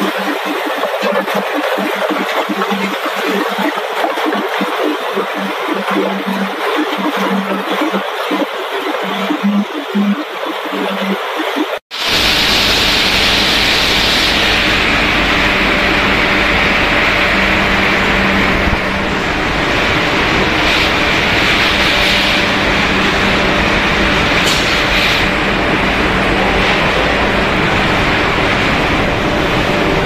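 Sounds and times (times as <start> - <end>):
production line machine noise: 0.0 - 30.0.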